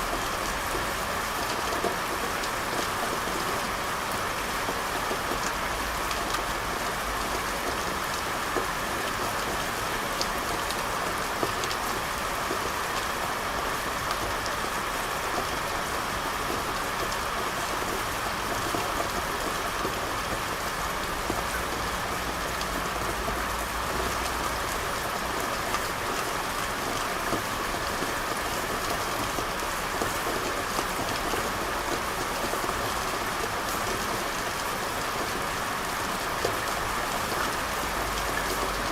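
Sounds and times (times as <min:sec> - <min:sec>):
rain falling on a street: 0:00.0 - 0:38.9.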